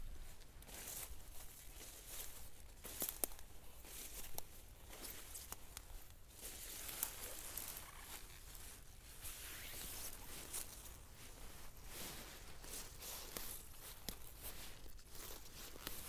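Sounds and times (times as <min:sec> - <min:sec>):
leaves and undergrowth rustling: 0:00.0 - 0:16.0.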